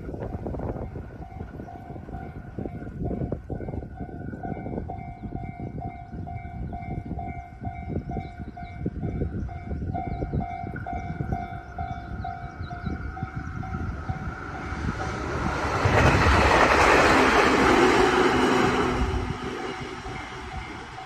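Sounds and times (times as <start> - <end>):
train wheels rumbling on rails: 0.0 - 21.0
railroad crossing alarm ringing: 0.3 - 21.0.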